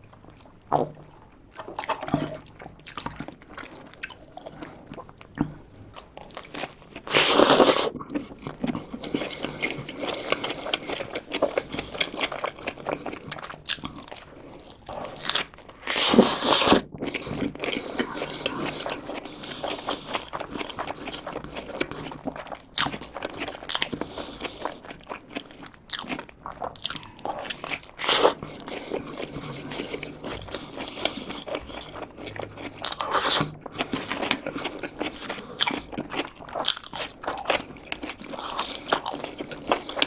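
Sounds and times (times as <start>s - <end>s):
wet chewing: 0.2s - 40.0s.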